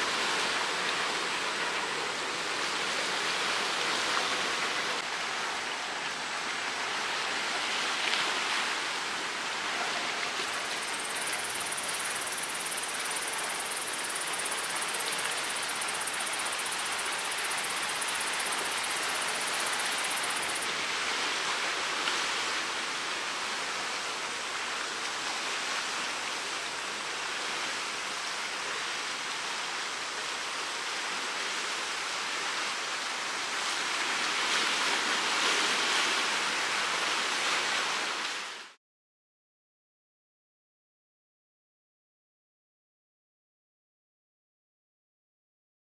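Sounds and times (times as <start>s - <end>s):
choppy sea water rushing: 0.0s - 38.8s.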